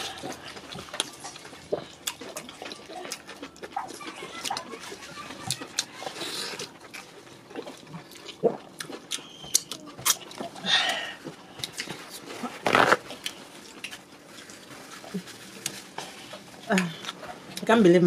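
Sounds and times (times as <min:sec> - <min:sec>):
wet chewing and lip smacking: 0:00.0 - 0:17.7.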